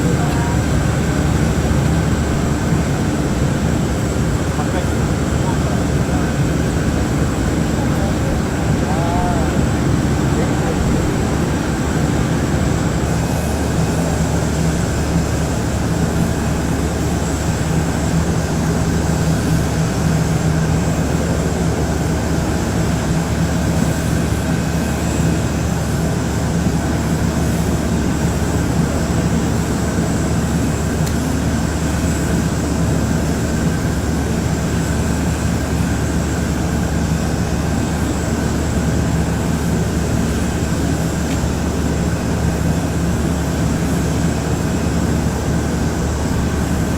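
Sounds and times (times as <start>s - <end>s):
jet engines droning: 0.0s - 46.9s.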